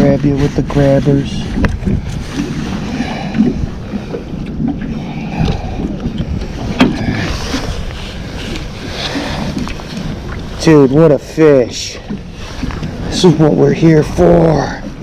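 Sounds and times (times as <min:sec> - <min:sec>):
water sloshing around boat: 0:00.0 - 0:15.0
wind buffeting microphone: 0:00.0 - 0:15.0.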